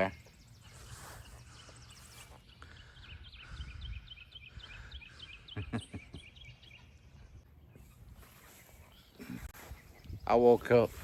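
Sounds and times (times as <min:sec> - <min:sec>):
high bird chirps: 0:00.0 - 0:10.7.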